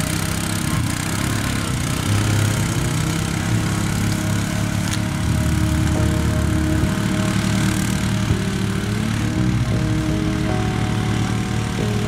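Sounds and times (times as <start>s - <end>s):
atv engine running under load: 0.0s - 12.0s.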